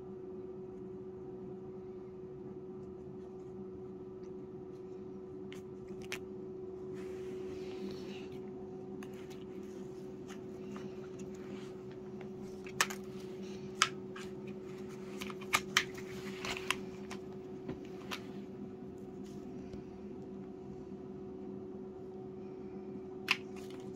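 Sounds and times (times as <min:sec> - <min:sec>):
low hum: 0:00.2 - 0:23.9.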